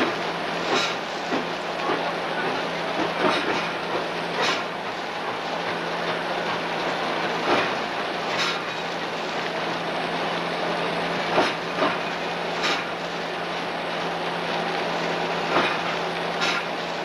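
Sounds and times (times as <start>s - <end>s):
train rolling along track: 0.0s - 17.0s.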